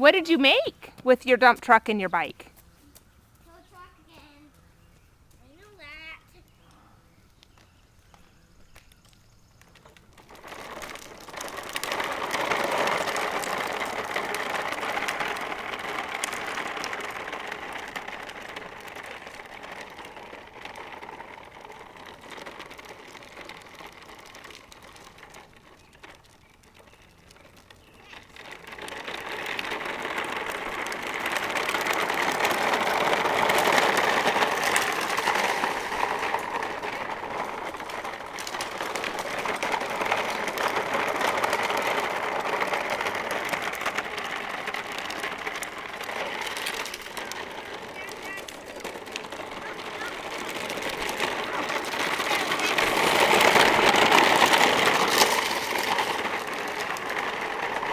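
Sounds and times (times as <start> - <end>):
toy truck rattling and scraping: 8.2 - 57.9.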